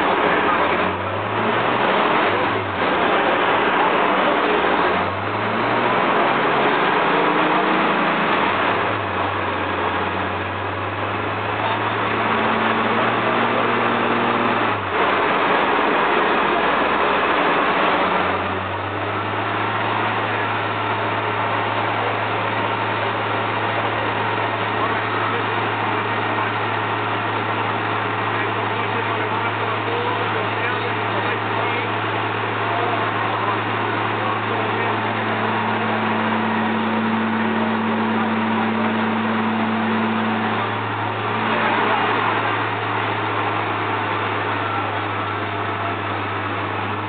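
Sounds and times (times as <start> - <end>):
car engine running on dyno: 0.0 - 47.0.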